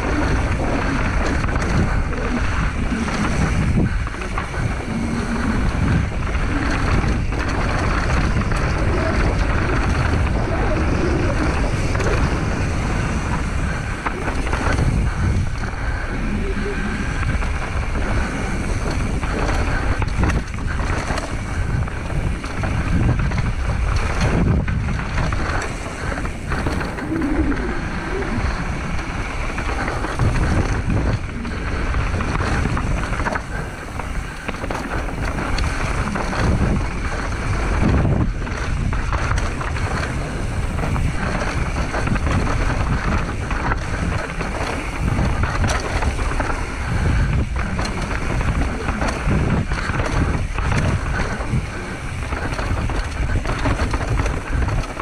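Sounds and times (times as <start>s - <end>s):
bike rattling and knocking: 0.0s - 55.0s
bike tyre rumble: 0.0s - 55.0s
wind rushing over microphone: 0.0s - 55.0s.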